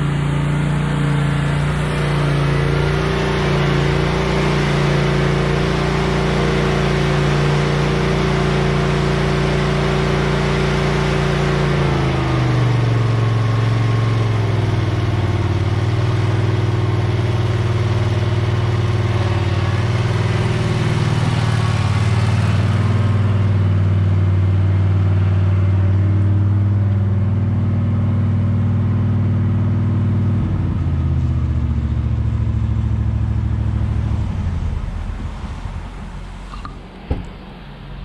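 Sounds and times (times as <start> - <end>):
mower engine running: 0.0 - 38.0.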